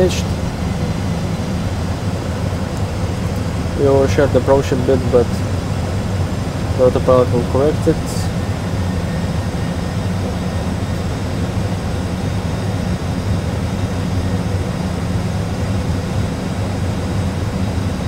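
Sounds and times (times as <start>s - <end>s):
cockpit engine and airflow noise: 0.0s - 18.0s.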